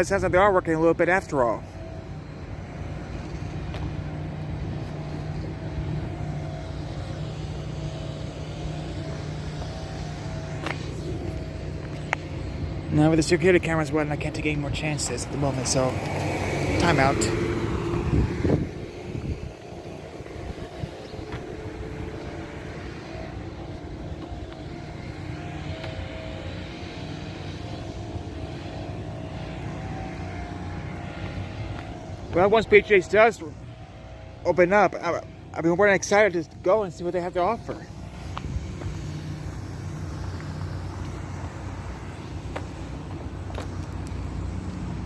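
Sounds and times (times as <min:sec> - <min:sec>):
engine humming steadily: 0:00.0 - 0:45.0.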